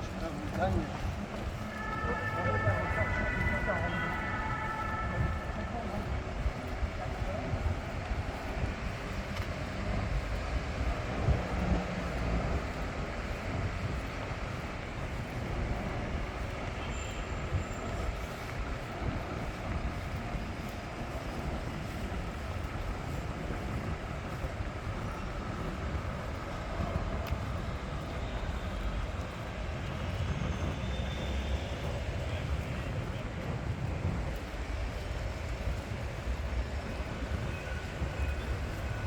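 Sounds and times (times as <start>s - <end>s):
rumble of passing vehicles: 0.0s - 39.0s.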